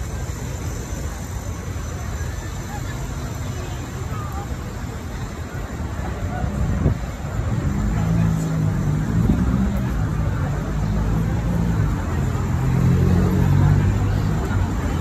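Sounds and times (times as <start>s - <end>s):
road traffic engine hum: 0.0s - 15.0s
street noise: 0.0s - 15.0s.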